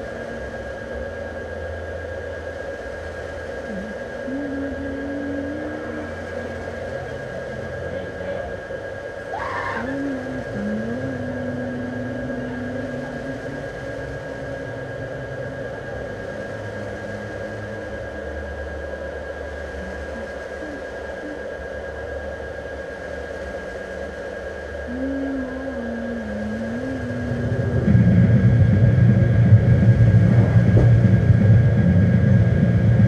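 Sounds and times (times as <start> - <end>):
droning hum with high whine: 0.0 - 33.0
low held tones bending in pitch: 3.0 - 22.6, 24.6 - 33.0.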